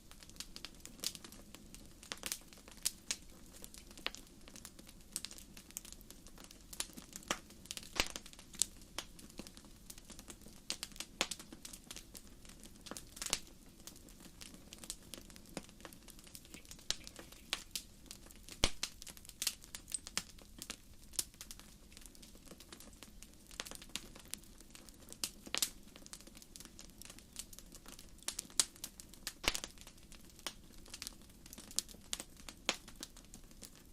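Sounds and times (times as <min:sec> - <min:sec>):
firewood crackling and popping: 0:00.0 - 0:33.9.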